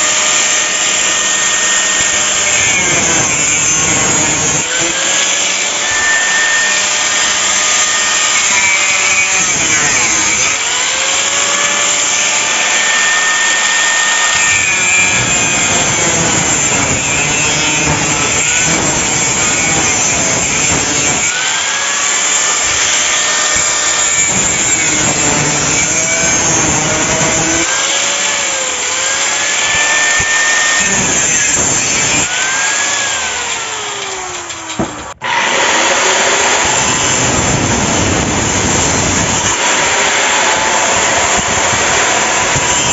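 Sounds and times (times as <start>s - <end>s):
power tool grinding metal: 0.0s - 42.9s.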